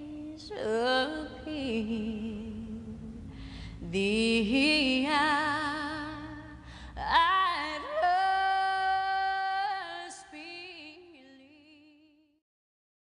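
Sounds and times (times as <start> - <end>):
person singing slow song: 0.0 - 12.0.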